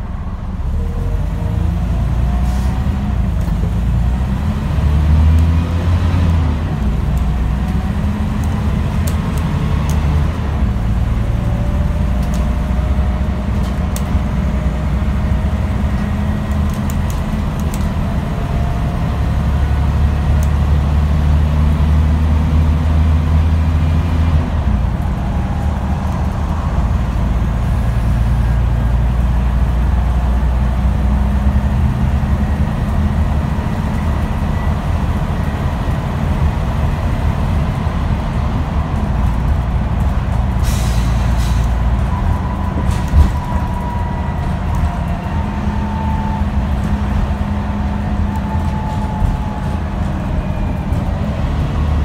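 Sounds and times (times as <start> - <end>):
bus diesel engine pulling hard: 0.0 - 52.0.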